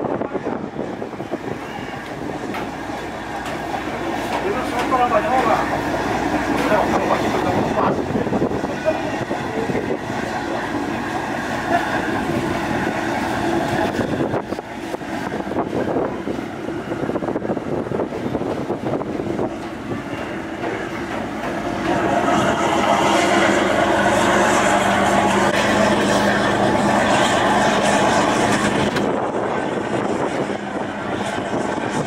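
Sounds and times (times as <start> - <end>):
ferry engines rumbling: 0.0 - 32.0
rushing wind and water: 0.0 - 32.0.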